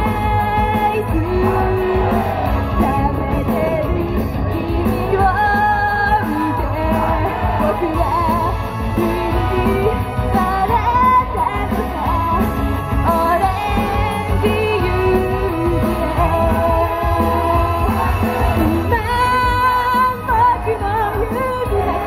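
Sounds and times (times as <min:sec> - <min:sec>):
amplified backing music: 0:00.0 - 0:22.0
girls singing pop song: 0:00.0 - 0:22.0.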